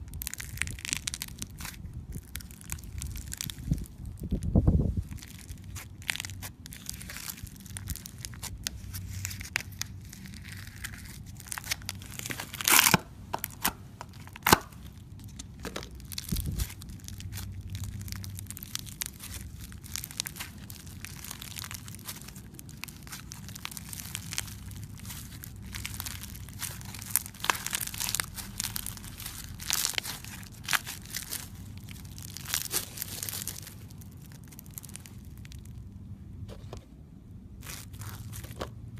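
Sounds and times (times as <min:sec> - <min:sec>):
crunchy slime crackling: 0:00.0 - 0:36.5, 0:37.4 - 0:38.9.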